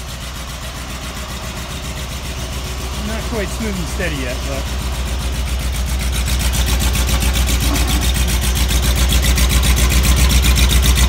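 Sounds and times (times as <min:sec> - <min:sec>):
car exhaust pulsing at idle: 0:00.0 - 0:11.0.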